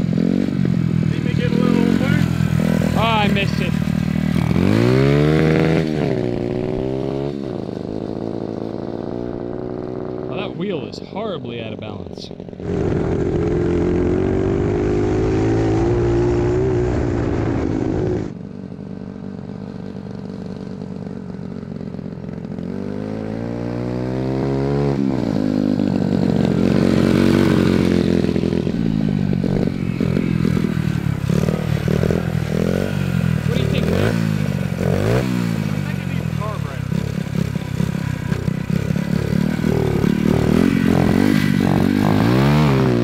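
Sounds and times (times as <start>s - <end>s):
mini bike engine running: 0.0s - 10.6s, 12.3s - 15.6s, 18.6s - 43.0s.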